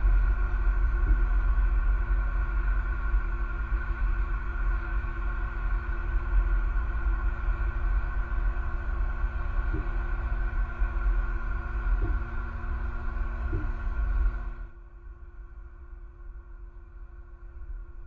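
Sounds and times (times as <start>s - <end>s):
constant hum: 0.0s - 18.0s.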